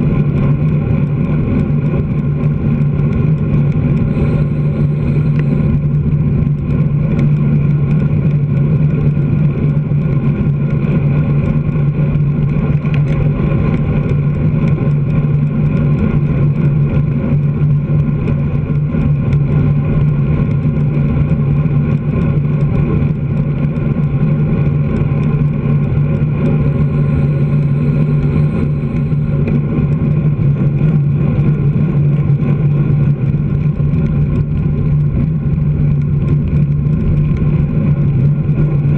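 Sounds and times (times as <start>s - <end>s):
road and wind rumble: 0.0s - 38.9s
truck diesel engine droning: 0.0s - 38.9s.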